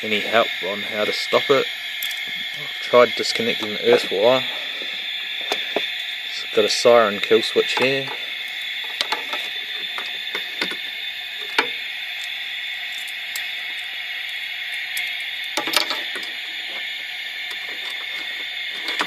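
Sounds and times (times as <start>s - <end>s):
siren static hiss: 0.0s - 19.0s.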